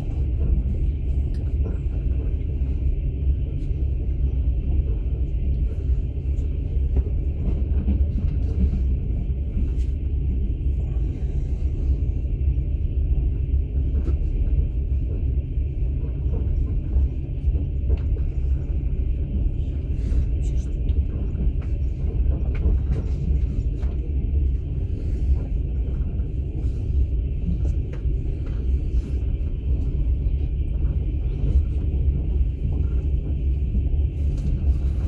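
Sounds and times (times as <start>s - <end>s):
train rumbling: 0.0s - 35.0s.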